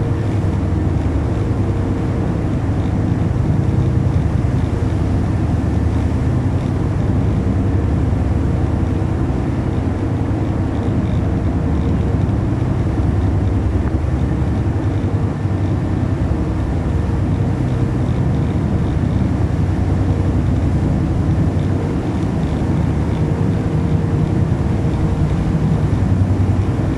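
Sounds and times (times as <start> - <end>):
ferry engines humming: 0.0 - 26.9
wind and water rushing: 0.0 - 26.9.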